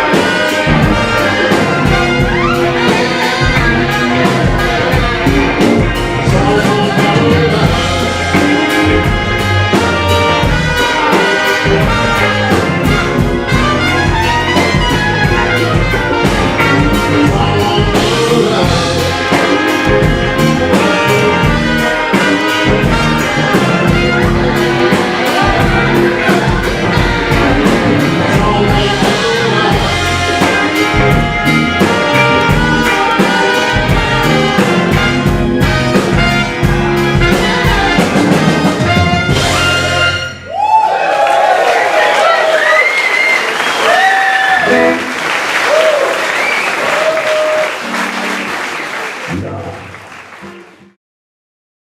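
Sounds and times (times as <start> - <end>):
saxophone and trumpet horns: 0.0 - 49.7
blues band playing: 0.0 - 51.0.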